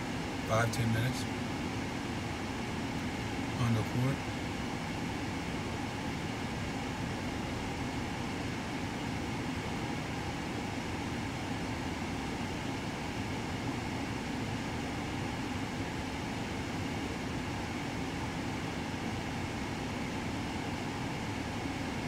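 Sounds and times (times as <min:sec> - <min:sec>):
air conditioning blowing: 0:00.0 - 0:22.0.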